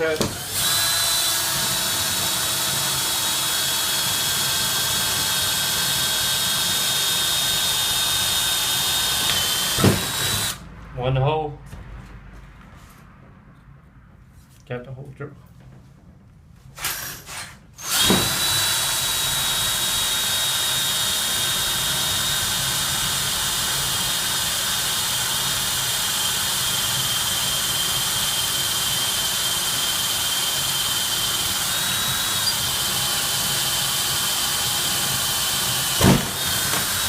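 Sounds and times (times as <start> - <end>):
electric drill boring into metal: 0.0 - 10.6, 17.8 - 37.0.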